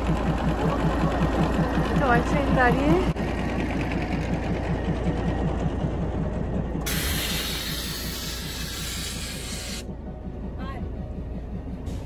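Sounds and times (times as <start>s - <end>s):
diesel locomotive idling: 0.0s - 12.0s.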